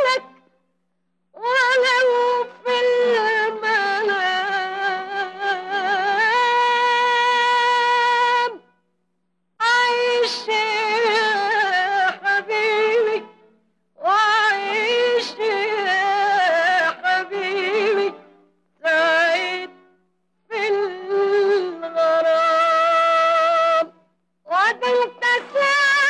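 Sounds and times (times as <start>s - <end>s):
woman singing with vibrato: 0.0s - 0.4s, 1.4s - 8.7s, 9.6s - 13.3s, 14.0s - 18.2s, 18.8s - 19.8s, 20.4s - 26.0s.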